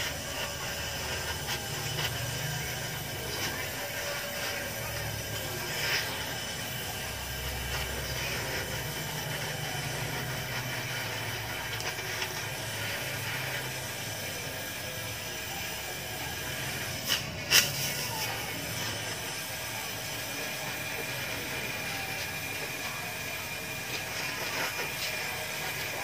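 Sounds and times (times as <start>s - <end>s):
welding torch hissing: 0.0s - 26.0s.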